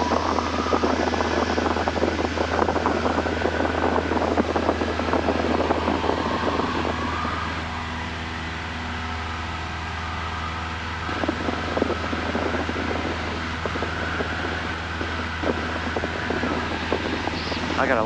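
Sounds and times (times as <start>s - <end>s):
aircraft engine and propeller drone: 0.0s - 18.0s.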